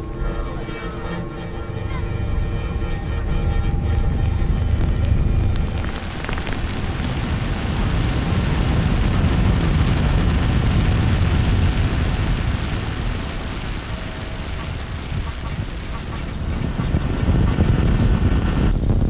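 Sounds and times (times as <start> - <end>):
dense rumbling noise: 0.0 - 19.0
thin high whine: 0.0 - 19.0.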